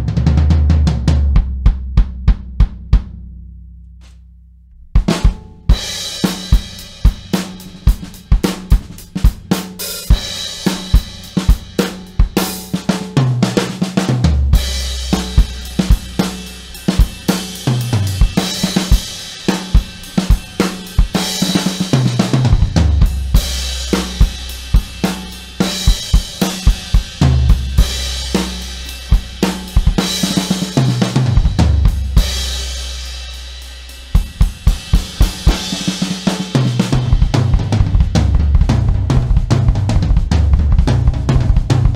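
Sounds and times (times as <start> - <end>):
tom drum fills: 0.0 - 3.3, 4.9 - 41.9
drum kit beat: 0.0 - 4.2, 4.8 - 41.9.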